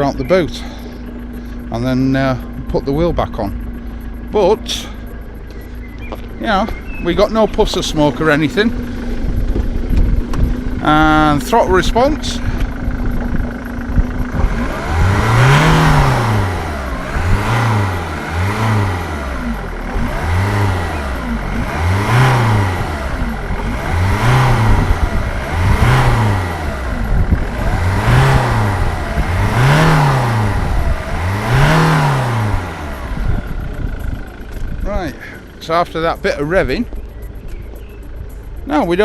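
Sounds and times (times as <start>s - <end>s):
diesel engine revving: 0.0s - 39.0s.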